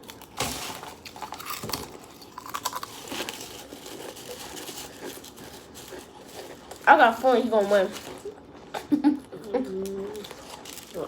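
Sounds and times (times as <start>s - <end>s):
crunchy snacks being chewed: 0.0s - 11.0s.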